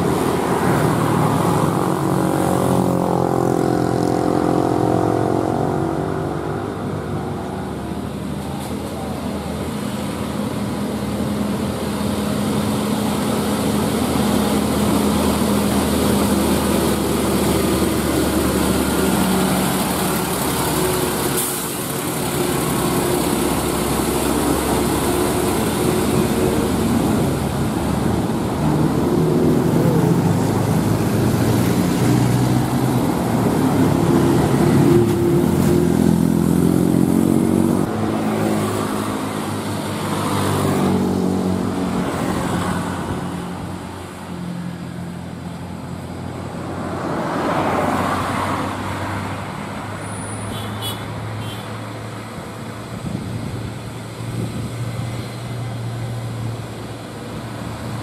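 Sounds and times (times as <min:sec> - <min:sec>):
diesel truck labouring uphill: 0:00.0 - 0:50.5.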